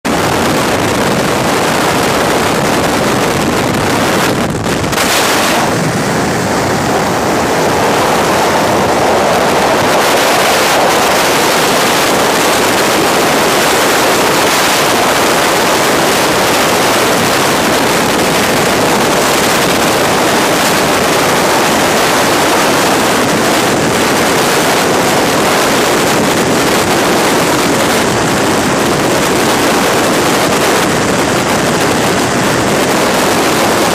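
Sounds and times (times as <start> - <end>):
wind rushing over microphone: 0.0 - 33.9.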